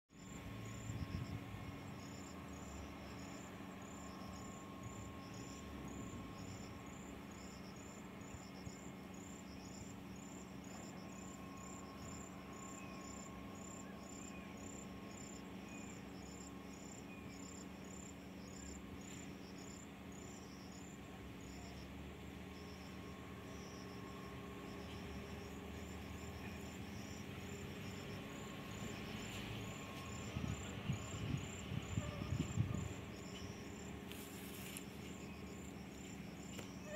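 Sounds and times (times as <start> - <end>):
insects chirping: 0.1 - 36.9.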